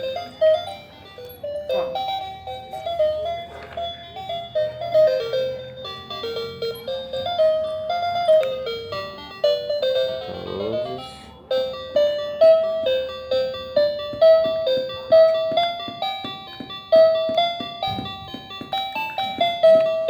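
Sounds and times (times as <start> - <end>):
plinky electronic keyboard melody: 0.0 - 20.0.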